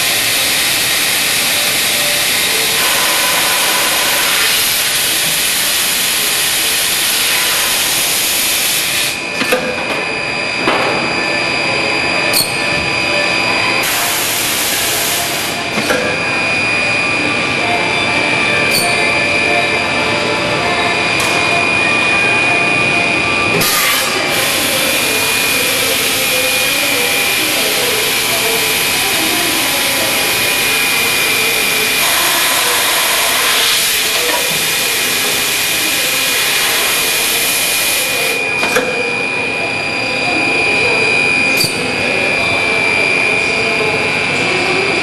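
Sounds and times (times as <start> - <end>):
machine running with high whine: 0.0 - 45.0.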